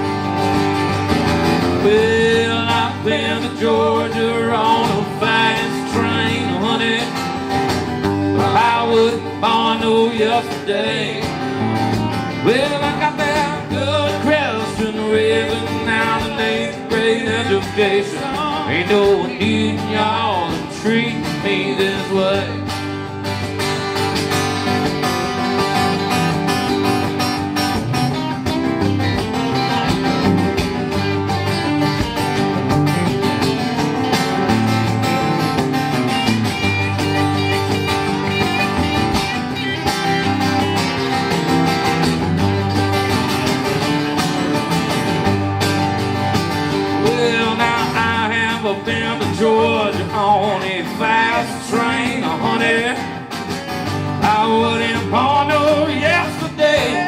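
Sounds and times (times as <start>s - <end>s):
country band with guitars: 0.0s - 57.0s.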